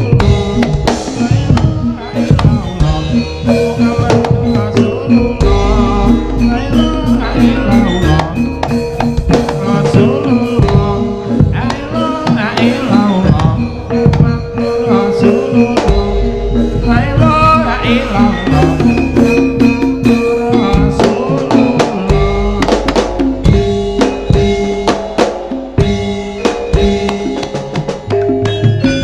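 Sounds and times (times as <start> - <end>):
ringing pitched tones: 0.0 - 29.0
wavering melodic line: 0.0 - 29.0.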